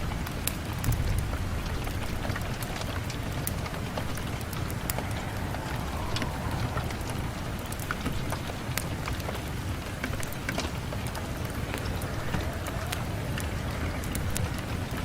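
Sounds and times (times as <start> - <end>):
rain hissing: 0.0 - 15.0
small sharp ticks and crackles: 0.0 - 15.0.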